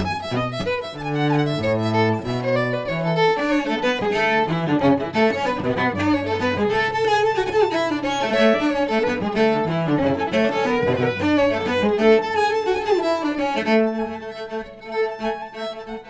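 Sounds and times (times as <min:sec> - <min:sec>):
cello low notes: 0:00.0 - 0:16.0
fiddle melody: 0:00.0 - 0:16.0.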